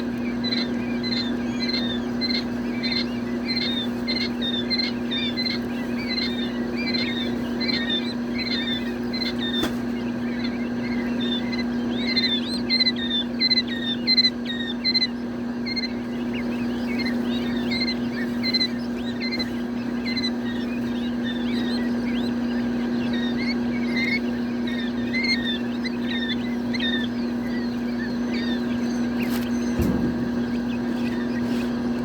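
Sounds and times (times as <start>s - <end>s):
chicks peeping: 0.0s - 32.0s
low electrical hum: 0.0s - 32.0s.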